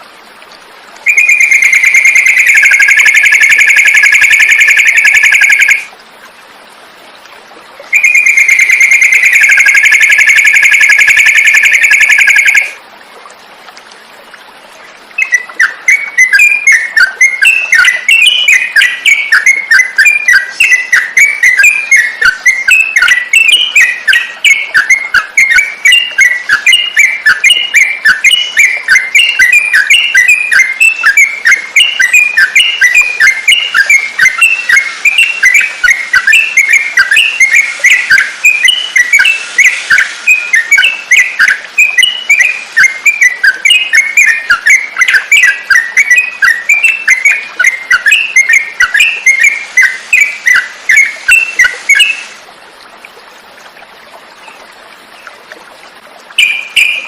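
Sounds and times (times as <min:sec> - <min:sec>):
bulbul singing bubbly chirps: 0:01.0 - 0:05.9, 0:07.9 - 0:12.8, 0:15.2 - 0:52.4, 0:56.2 - 0:57.0.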